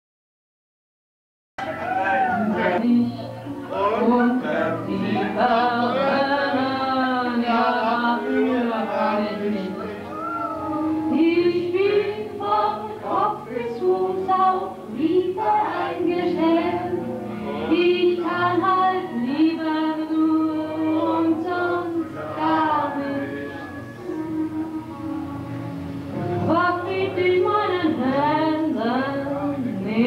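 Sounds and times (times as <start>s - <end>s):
voices singing with accompaniment: 1.6s - 30.0s.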